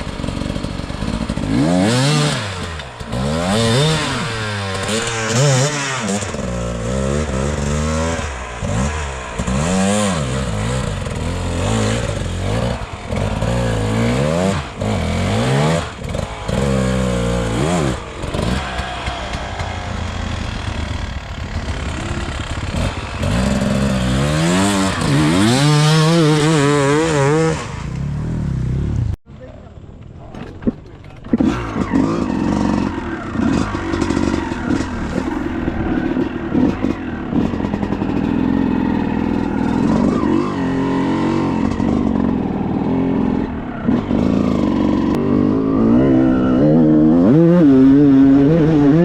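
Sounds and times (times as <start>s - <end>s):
dirt bike engine revving: 0.0s - 29.2s, 31.2s - 49.0s.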